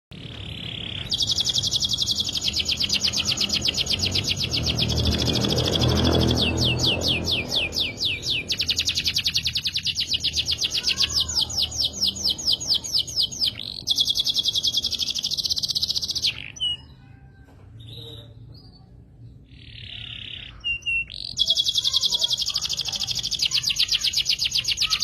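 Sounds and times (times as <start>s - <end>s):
canary singing trills: 0.1s - 25.0s.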